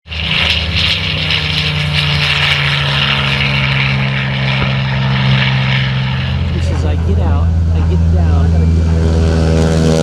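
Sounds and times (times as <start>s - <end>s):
propeller aircraft engine drone: 0.1s - 10.0s.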